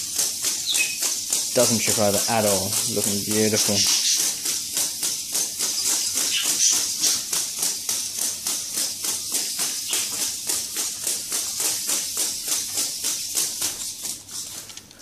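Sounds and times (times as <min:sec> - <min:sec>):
robot legs tapping on concrete: 0:00.0 - 0:14.9.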